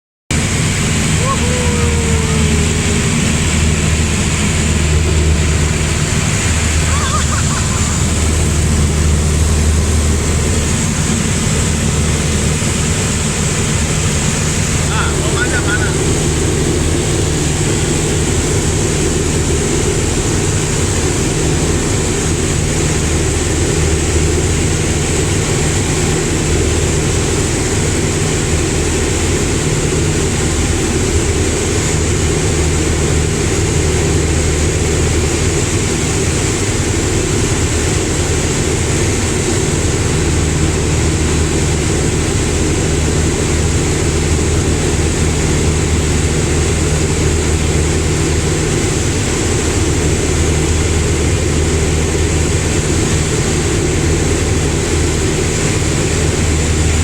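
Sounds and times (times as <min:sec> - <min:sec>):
propeller airplane engine drone: 0:00.3 - 0:57.0.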